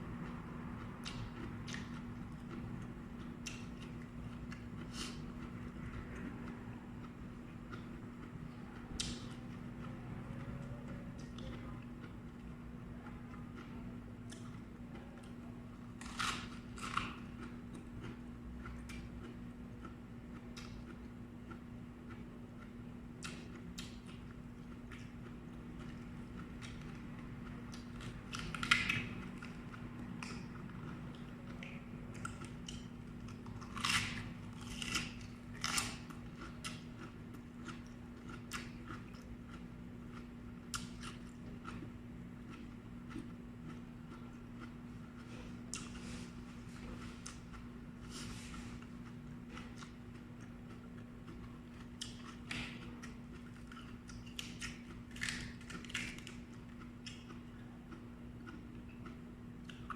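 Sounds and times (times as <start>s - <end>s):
crunchy chewing of vegetables: 0.0s - 59.9s
steady low hum: 0.0s - 59.9s.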